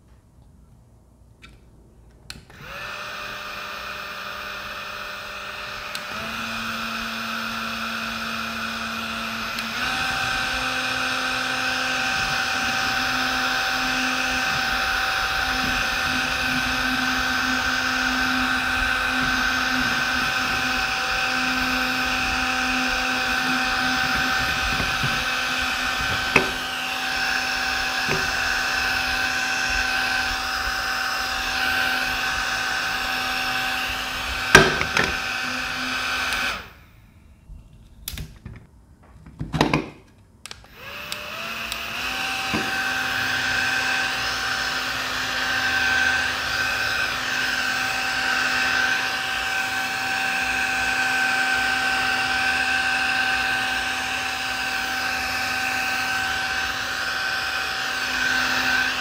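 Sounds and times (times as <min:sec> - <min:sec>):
handheld fan motor whine: 0:02.3 - 0:38.2, 0:40.4 - 0:59.0.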